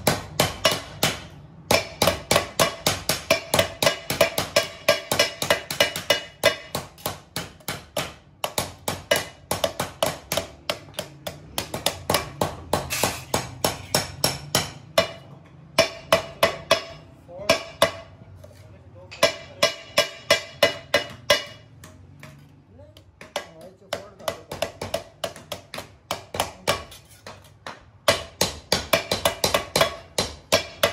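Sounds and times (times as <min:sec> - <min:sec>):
mallets beating sheet steel: 0:00.0 - 0:18.3, 0:19.1 - 0:22.5, 0:23.1 - 0:30.9.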